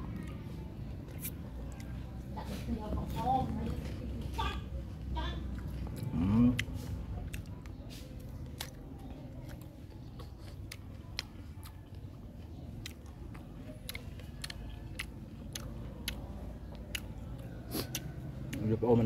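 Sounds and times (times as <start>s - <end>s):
person chewing crisp fruit: 0.0s - 19.0s.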